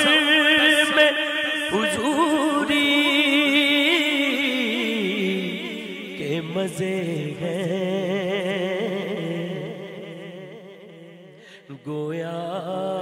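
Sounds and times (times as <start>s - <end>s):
man singing unaccompanied: 0.0s - 10.7s, 11.6s - 13.0s.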